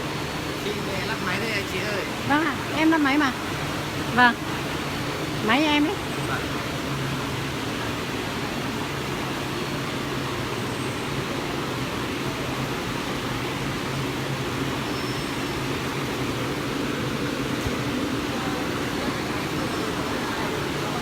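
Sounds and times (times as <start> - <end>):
sewing machine humming and hissing: 0.0 - 21.0.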